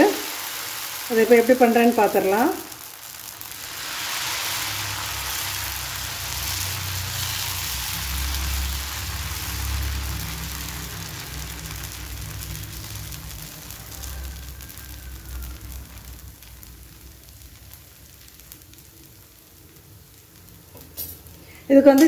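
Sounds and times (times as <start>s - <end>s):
batter sizzling on hot pan: 0.0s - 22.0s.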